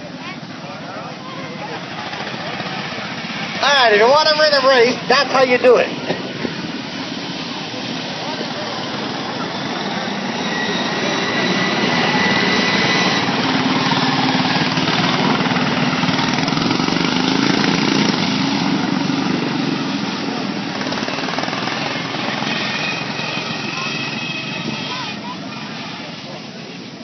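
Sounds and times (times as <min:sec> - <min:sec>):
lawn mower engine buzzing: 0:01.2 - 0:27.0.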